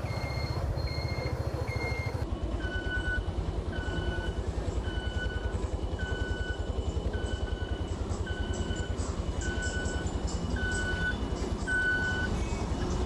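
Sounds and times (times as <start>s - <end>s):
two-tone electronic beep: 0.0s - 12.3s
vehicle engine rumbling: 0.0s - 13.0s.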